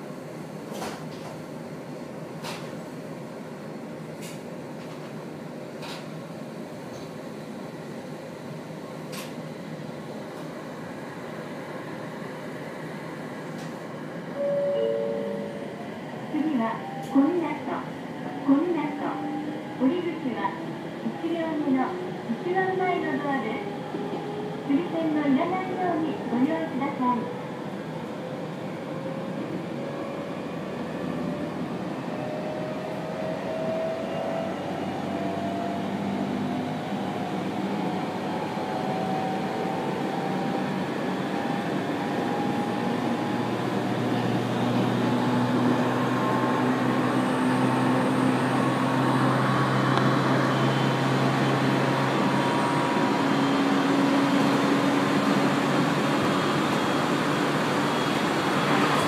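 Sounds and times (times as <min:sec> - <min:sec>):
train rolling noise: 0:00.0 - 0:59.0.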